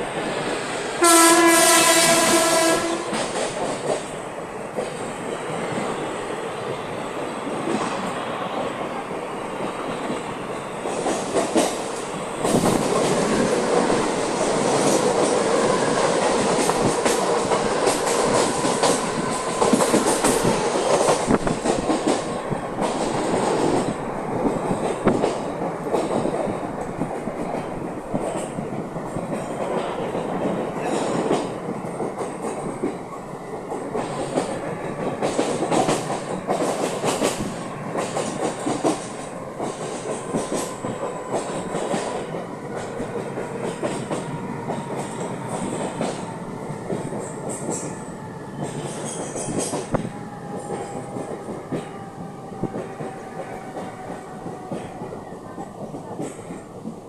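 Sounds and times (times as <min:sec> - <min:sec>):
train wheels rumbling: 0:00.0 - 0:57.0
clickety-clack over rail joints: 0:01.1 - 0:05.9, 0:07.6 - 0:57.0.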